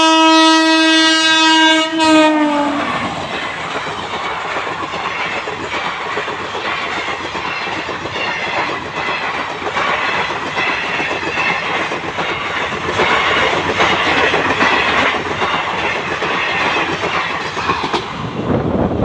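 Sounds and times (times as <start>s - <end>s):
train wheels rushing on rails: 0.0s - 19.0s.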